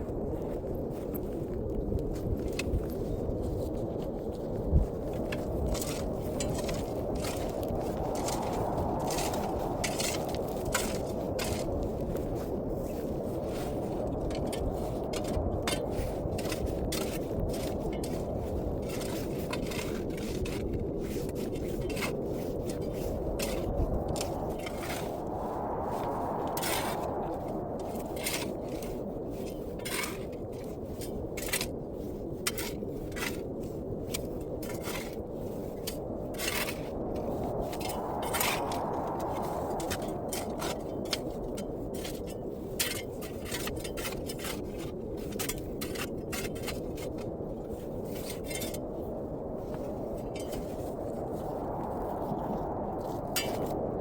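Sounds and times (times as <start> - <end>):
blizzard wind gusting: 0.0 - 54.0.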